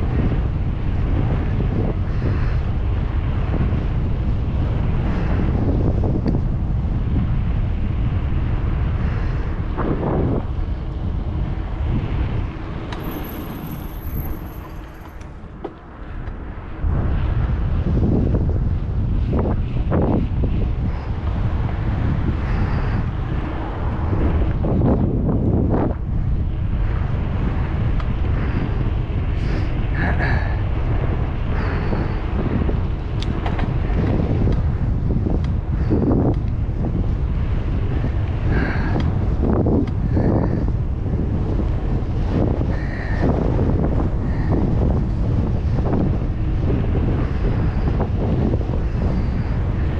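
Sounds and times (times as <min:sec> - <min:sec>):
road traffic rumble: 0:00.0 - 0:49.9
wind buffeting microphone: 0:00.0 - 0:49.9.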